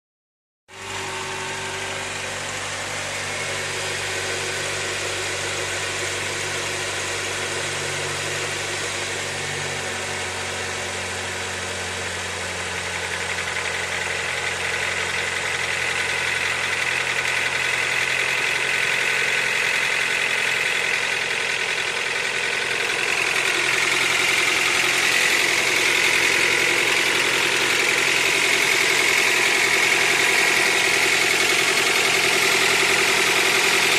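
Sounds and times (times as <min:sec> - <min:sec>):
car engine knocking: 0:01.8 - 0:33.9.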